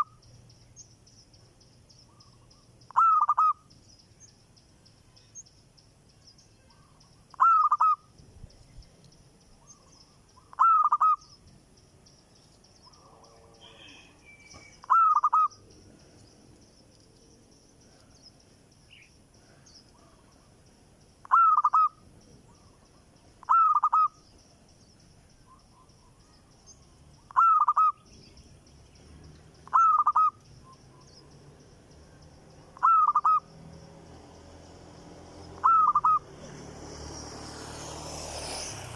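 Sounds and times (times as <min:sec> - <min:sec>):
bird calls: 0:00.0 - 0:33.8, 0:35.4 - 0:36.5.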